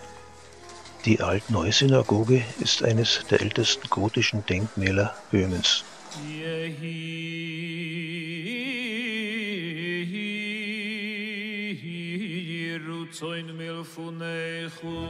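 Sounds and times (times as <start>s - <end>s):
man singing a slow chant: 1.1s - 15.0s.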